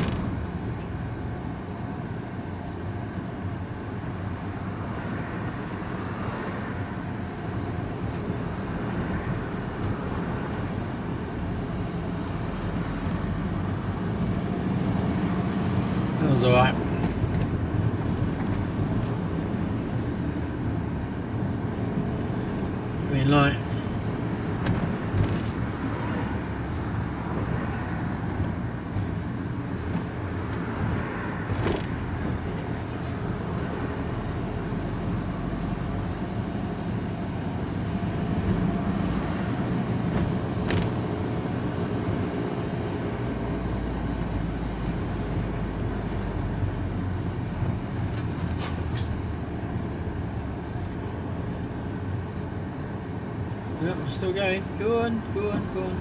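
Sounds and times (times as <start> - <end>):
vehicle engine from inside cab: 6.8 - 56.0.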